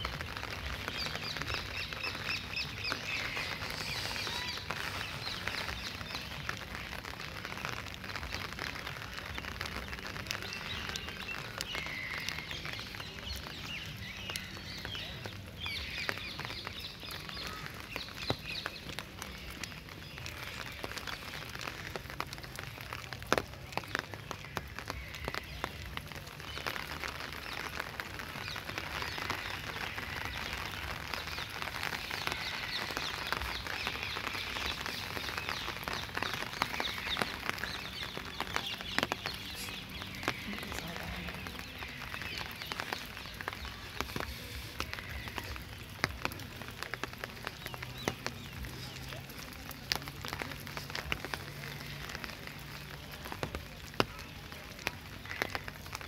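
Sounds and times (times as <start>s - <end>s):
rain on brick path and trees: 0.0s - 56.0s
sharp ticks of raindrops: 0.0s - 56.0s.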